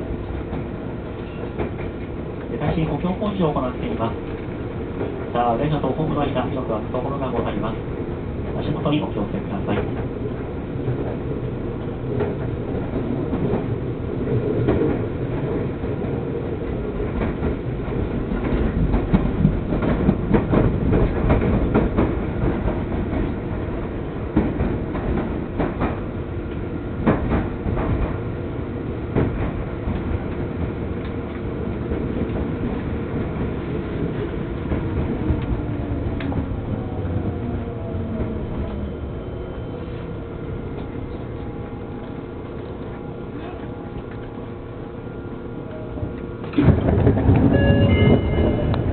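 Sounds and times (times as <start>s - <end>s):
train low rumble: 0.0s - 48.9s.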